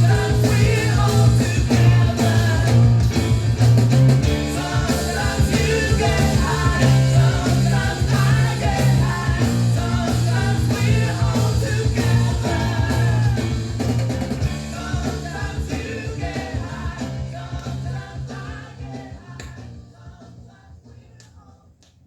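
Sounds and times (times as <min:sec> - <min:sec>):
rock band playing: 0:00.0 - 0:19.2.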